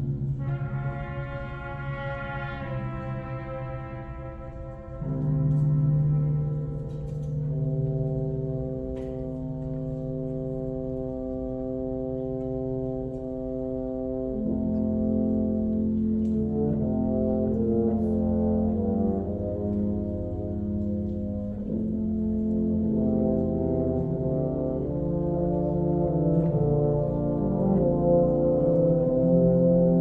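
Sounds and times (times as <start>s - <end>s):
wind band brass chords: 0.0s - 30.0s.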